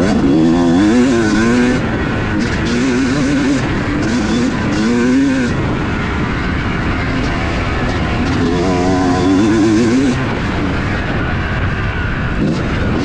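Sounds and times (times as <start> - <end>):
constant rushing noise: 0.0 - 13.0
two-stroke motorcycle engine revving: 0.0 - 13.0.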